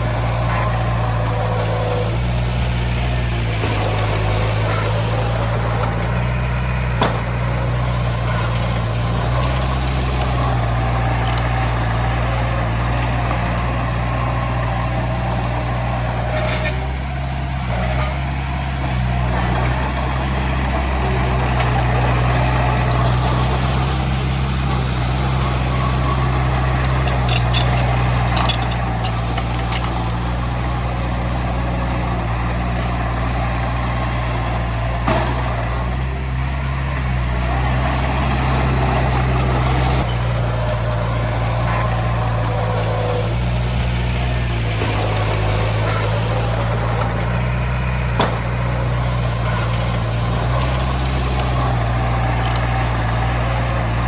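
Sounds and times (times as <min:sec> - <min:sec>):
metallic clanks and squeaks: 0:00.0 - 0:34.2, 0:35.1 - 0:54.0
heavy machinery diesel engine: 0:00.0 - 0:54.0.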